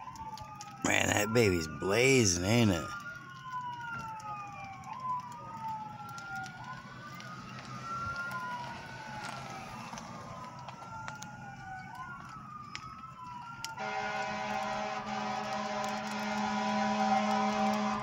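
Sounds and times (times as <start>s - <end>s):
fire truck sirens wailing: 0.0s - 18.0s.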